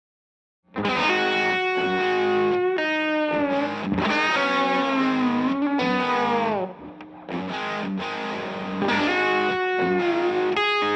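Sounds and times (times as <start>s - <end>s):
distorted electric guitar lead: 0.8s - 10.9s.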